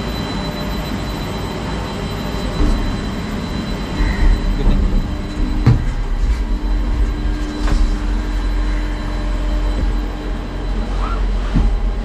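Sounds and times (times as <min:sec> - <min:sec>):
steady hum: 0:00.0 - 0:12.0
lift machinery rumbling: 0:00.4 - 0:12.0.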